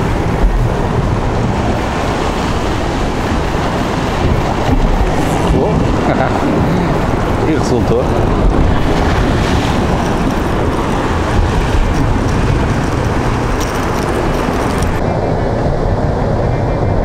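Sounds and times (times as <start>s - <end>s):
waves breaking against rocks: 0.0s - 15.0s
wind buffeting microphone: 0.0s - 17.0s.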